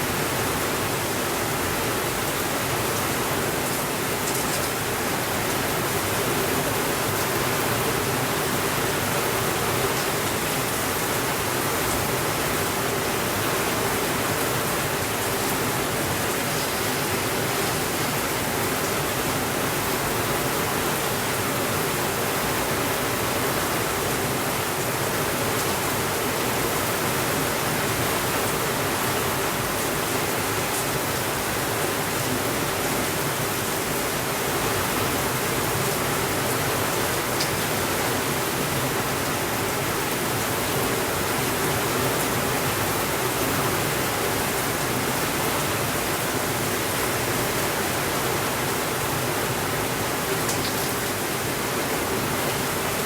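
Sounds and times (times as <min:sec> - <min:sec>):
steady rainfall hissing: 0:00.0 - 0:53.0.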